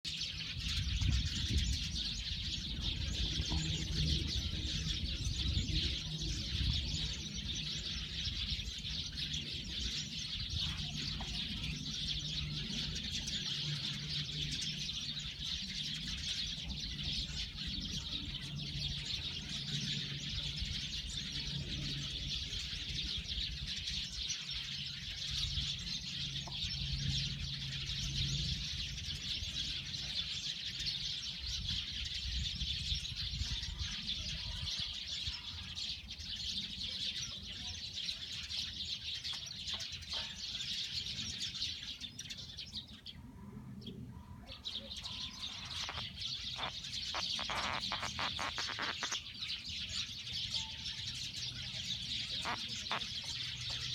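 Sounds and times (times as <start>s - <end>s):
flock of sparrows chirping: 0.0s - 53.9s.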